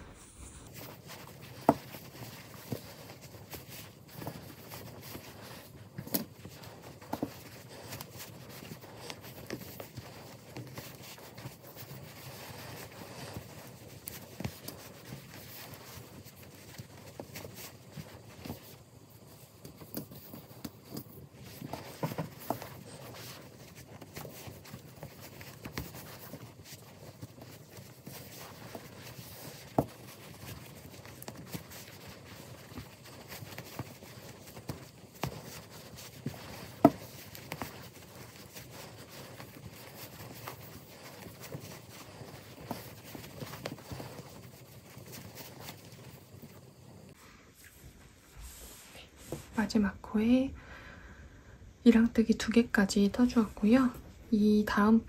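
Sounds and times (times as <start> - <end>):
yarn rustling: 0.0 - 50.4.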